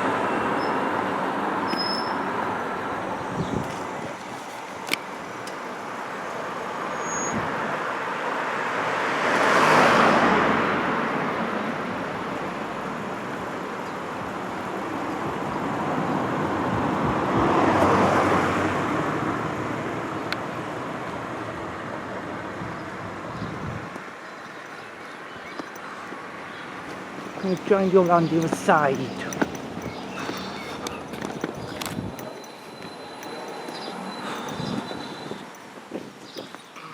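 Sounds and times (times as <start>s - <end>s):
traffic noise: 0.0s - 36.9s
vehicles passing by: 0.0s - 36.9s.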